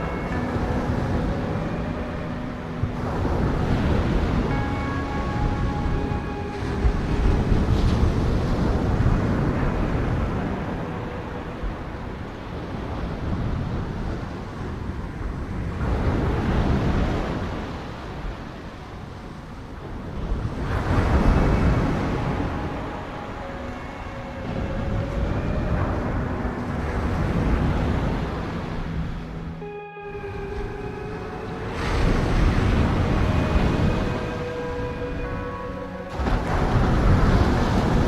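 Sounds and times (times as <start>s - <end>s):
faint steady tones: 0.0s - 38.0s
waves breaking on shore: 0.0s - 38.0s.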